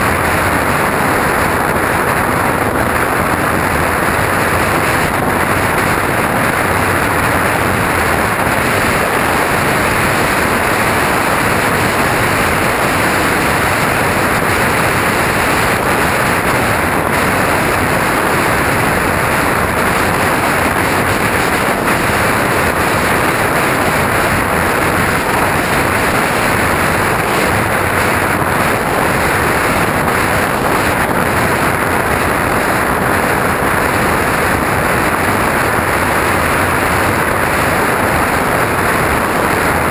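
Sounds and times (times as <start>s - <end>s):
airflow rushing: 0.0s - 39.9s
propeller noise: 0.0s - 39.9s.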